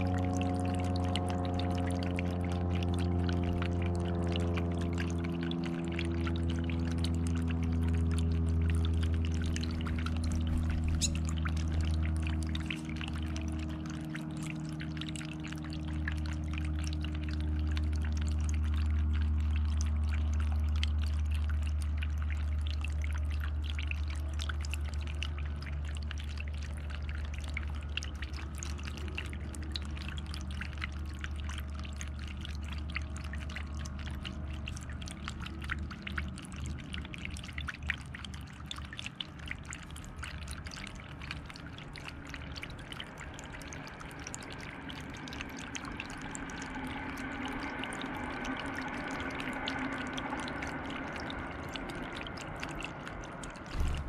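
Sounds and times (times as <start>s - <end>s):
fountain water trickling and splashing: 0.0s - 54.0s
low hum: 0.0s - 54.0s.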